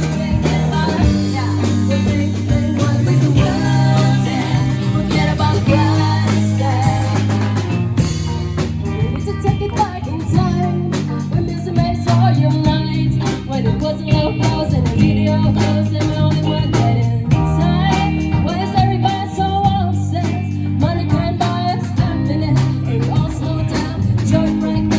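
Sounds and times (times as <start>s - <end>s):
bass and guitar: 0.0s - 24.9s
drum kit beat: 0.0s - 24.9s.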